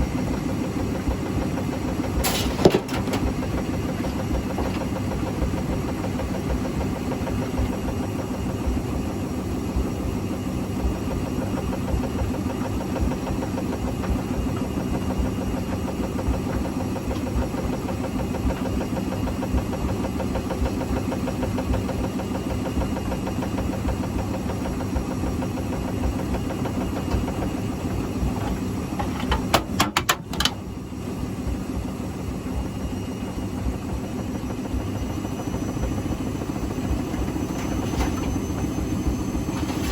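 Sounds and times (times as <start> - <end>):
washing machine motor drone: 0.0 - 39.9.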